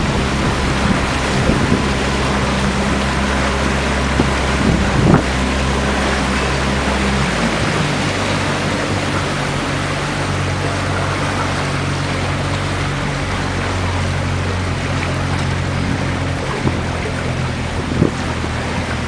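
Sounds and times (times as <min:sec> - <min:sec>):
motorboat engine humming: 0:00.0 - 0:19.0
wind and water hiss: 0:00.0 - 0:19.0.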